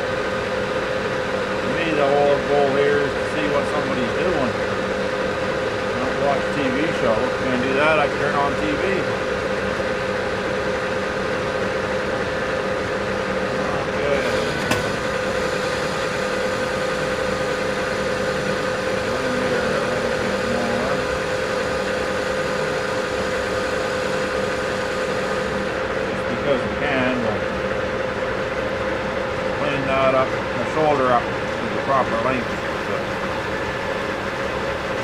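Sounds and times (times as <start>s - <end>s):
metal lathe humming: 0.0s - 35.0s.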